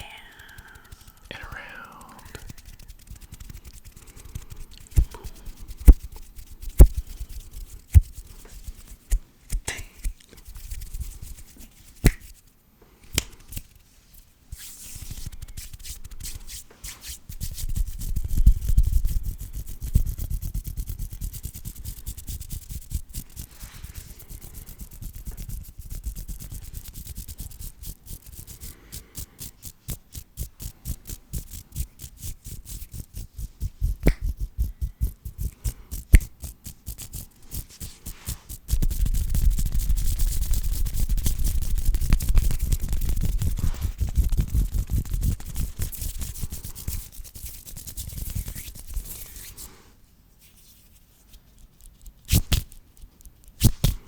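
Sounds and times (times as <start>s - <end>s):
hands rubbing together: 0.0s - 12.4s, 13.2s - 49.8s.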